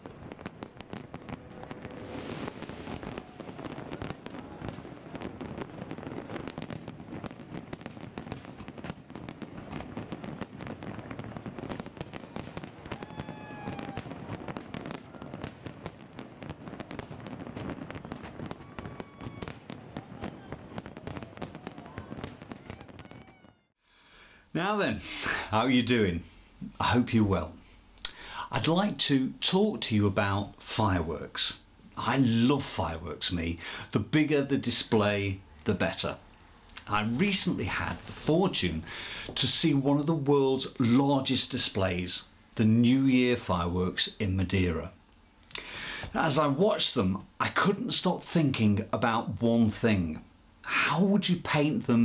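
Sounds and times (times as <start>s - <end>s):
fireworks bangs and crackles: 0.0s - 23.8s, 28.6s - 45.0s, 45.7s - 52.0s.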